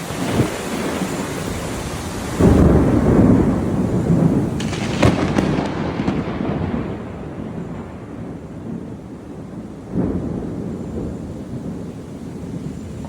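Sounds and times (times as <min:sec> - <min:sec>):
heavy rain falling: 0:00.0 - 0:13.0
thunder rumble with sharp cracks: 0:00.0 - 0:13.0.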